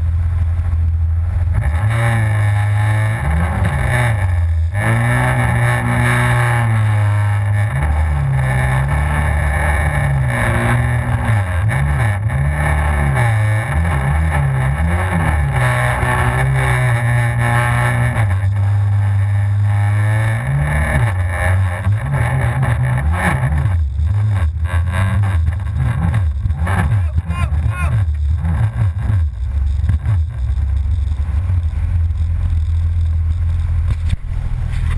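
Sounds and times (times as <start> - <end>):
jet ski engine revving: 1.4 - 32.1.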